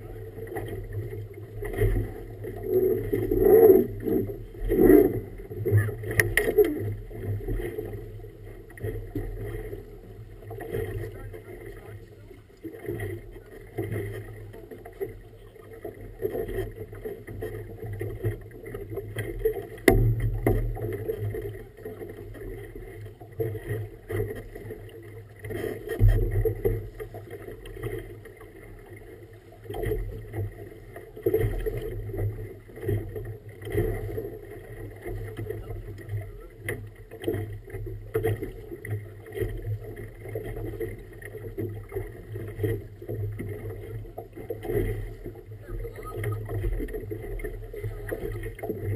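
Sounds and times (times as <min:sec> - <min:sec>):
hull thumping on waves: 0:00.0 - 0:48.9
motorboat engine running: 0:00.0 - 0:48.9.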